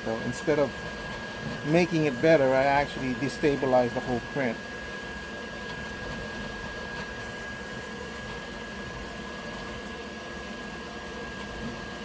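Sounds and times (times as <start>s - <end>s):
printer fans whirring: 0.0s - 12.0s.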